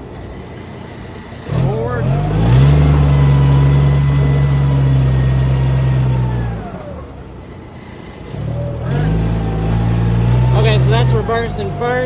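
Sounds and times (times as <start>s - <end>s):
forklift engine running: 0.0s - 12.0s.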